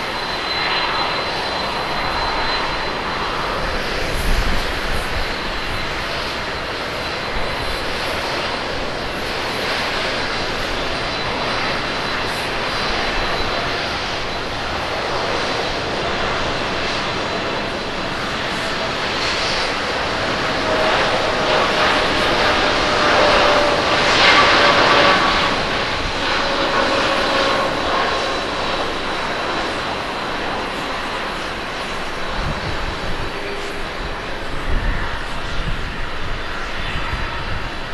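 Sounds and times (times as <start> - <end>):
jet engines at takeoff thrust: 0.0 - 37.9.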